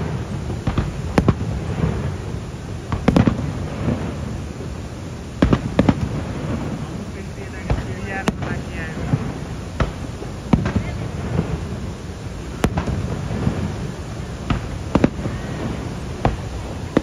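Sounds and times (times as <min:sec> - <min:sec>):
fireworks bursting: 0:00.0 - 0:17.0
low background rumble: 0:00.0 - 0:17.0.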